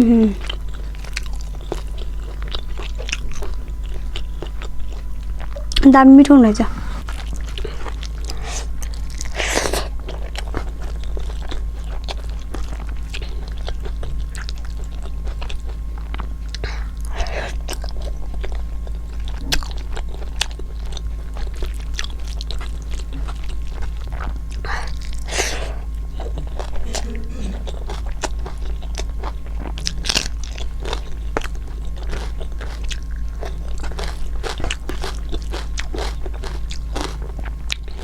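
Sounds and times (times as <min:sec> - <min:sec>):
chewing and crunching food: 0:00.0 - 0:38.0
low electrical hum: 0:00.0 - 0:38.0.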